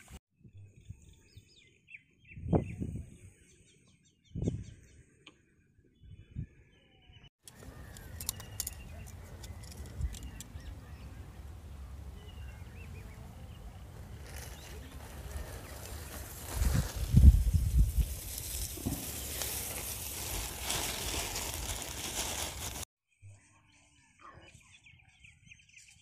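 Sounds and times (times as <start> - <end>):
small birds chirping: 0.8 - 22.2.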